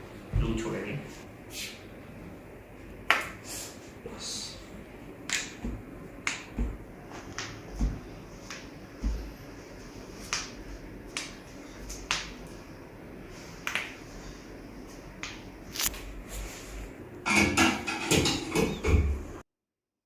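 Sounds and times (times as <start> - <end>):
faint steady background noise: 0.0 - 19.4.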